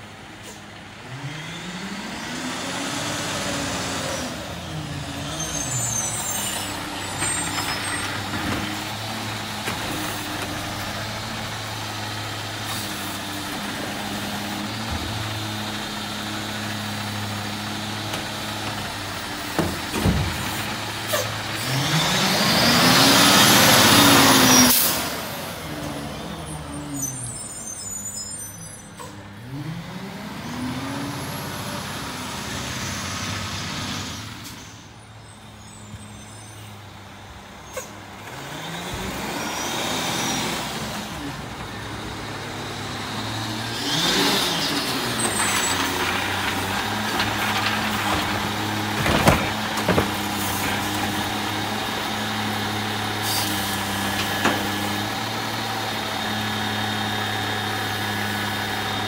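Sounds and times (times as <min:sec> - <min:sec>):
diesel truck engine: 0:00.0 - 0:59.0.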